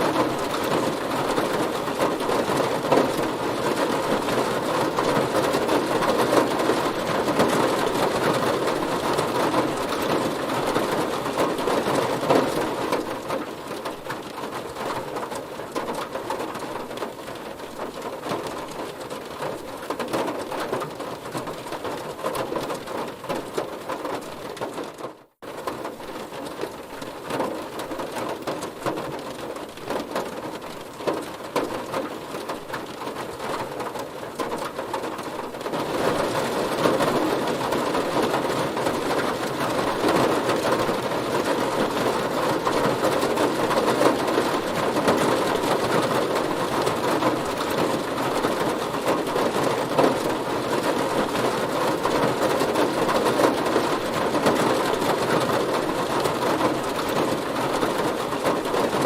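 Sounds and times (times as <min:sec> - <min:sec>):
heavy rain on a car: 0:00.0 - 0:59.0.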